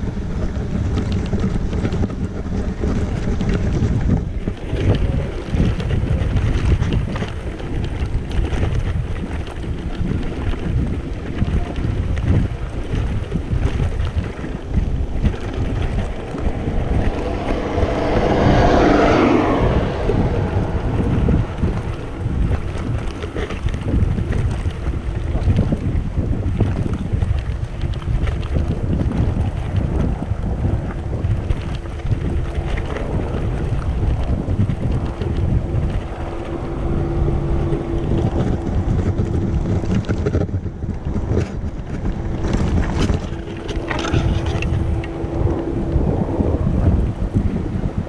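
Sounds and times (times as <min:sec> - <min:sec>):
low rumble rolling over grass: 0:00.0 - 0:48.0
wind buffeting microphone: 0:00.0 - 0:48.0.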